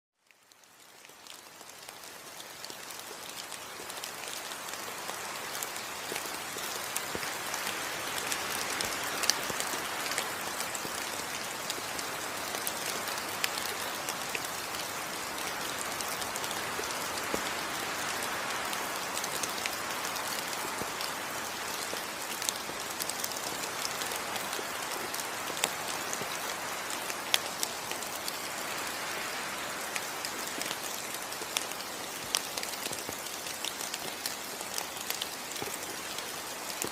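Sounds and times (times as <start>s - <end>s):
dense hiss of rain: 0.2s - 36.9s
raindrops ticking close by: 0.2s - 36.9s.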